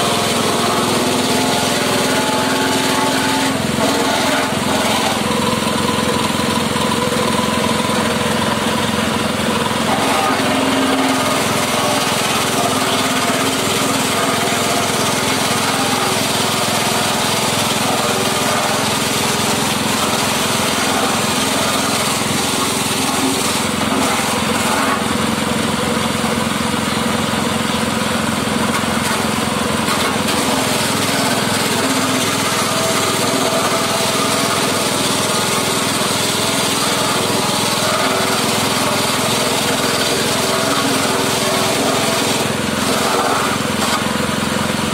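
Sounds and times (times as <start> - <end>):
forage chopper running: 0.0 - 44.9.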